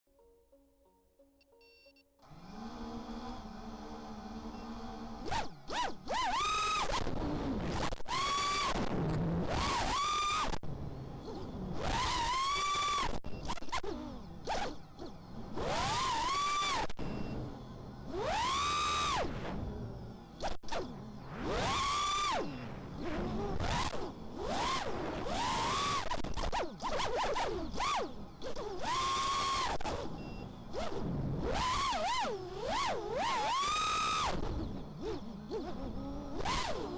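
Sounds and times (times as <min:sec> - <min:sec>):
drone motors whining: 0:02.2 - 0:36.9.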